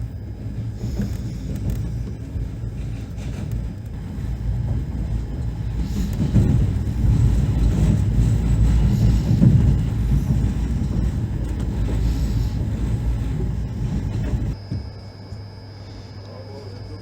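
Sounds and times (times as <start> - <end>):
train rumbling and rattling: 0.0 - 15.0
steady hum: 0.0 - 17.0.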